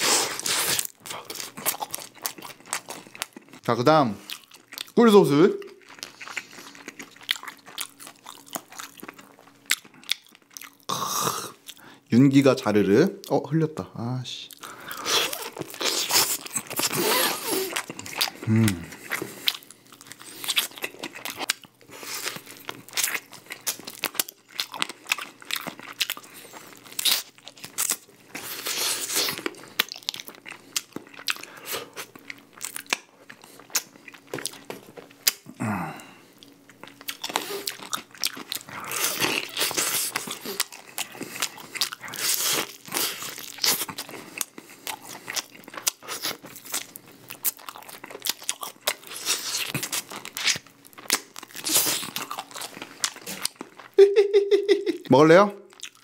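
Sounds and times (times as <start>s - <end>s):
crunching and chewing chicken: 0.0s - 12.2s, 14.4s - 54.0s, 54.8s - 56.0s.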